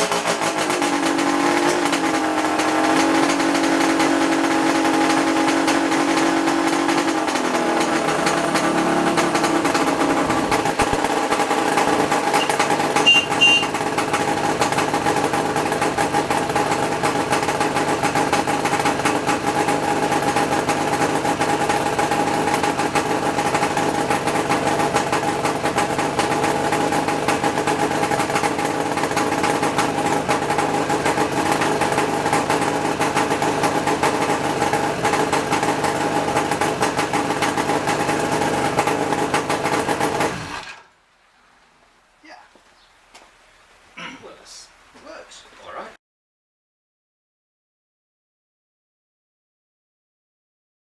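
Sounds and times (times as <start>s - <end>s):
two-stroke motorcycle engine idling: 0.0s - 41.0s, 42.2s - 45.9s.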